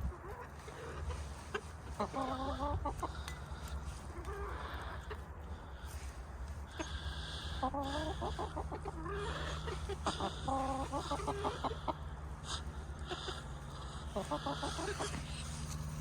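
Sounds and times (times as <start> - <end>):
chickens clucking: 0.0 - 16.0
steady low hum: 0.0 - 16.0.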